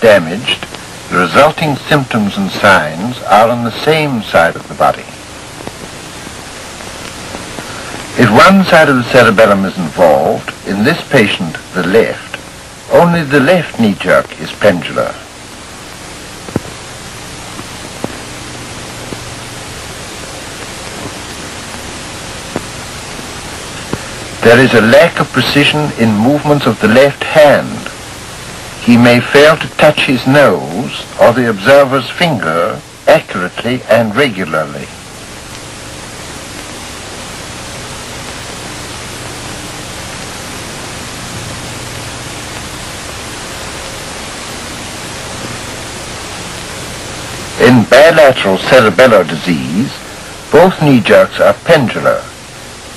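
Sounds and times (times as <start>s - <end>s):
faint low hum: 0.0s - 52.9s
film soundtrack hiss: 0.0s - 52.9s.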